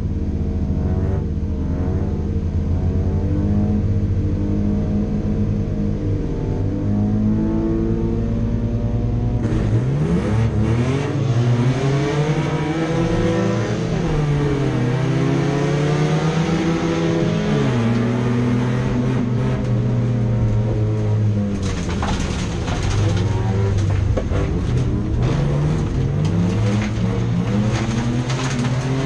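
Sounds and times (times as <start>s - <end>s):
car engines revving and accelerating: 0.0s - 29.0s.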